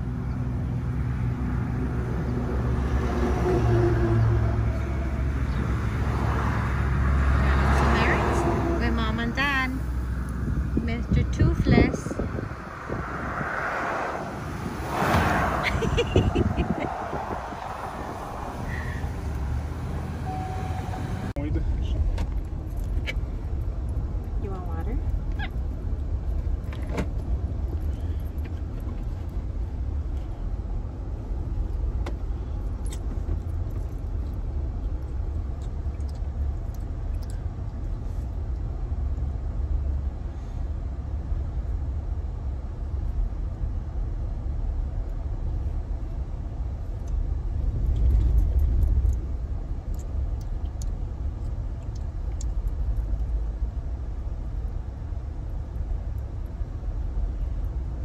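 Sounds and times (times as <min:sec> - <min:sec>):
car rumble from inside cabin: 0:00.0 - 0:58.0.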